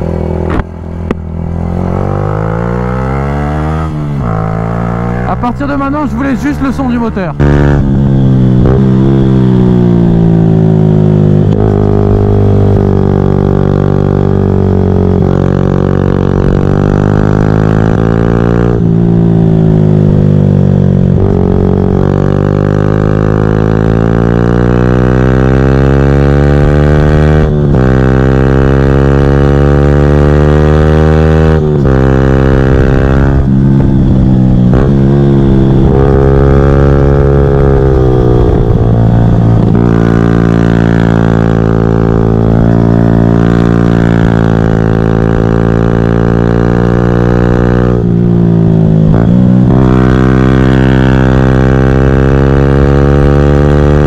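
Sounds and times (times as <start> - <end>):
motorcycle accelerating hard: 0.0 - 54.0.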